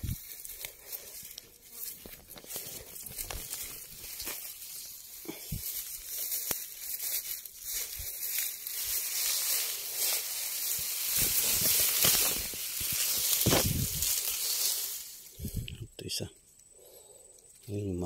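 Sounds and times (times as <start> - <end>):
grass rustling from footsteps: 0.0 - 15.9
dry stalks crackling: 0.0 - 18.0.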